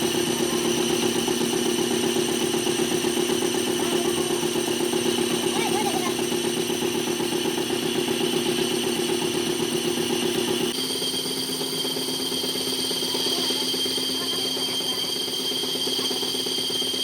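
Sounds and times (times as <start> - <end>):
machine humming with high whine: 0.0 - 17.0.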